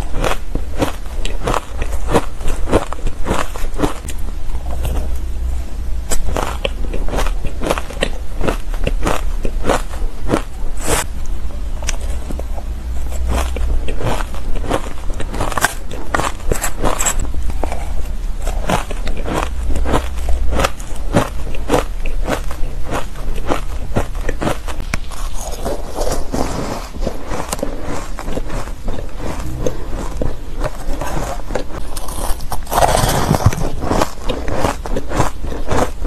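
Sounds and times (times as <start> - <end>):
crunching shaved ice: 0.0 - 5.2, 6.1 - 11.1, 11.8 - 36.0.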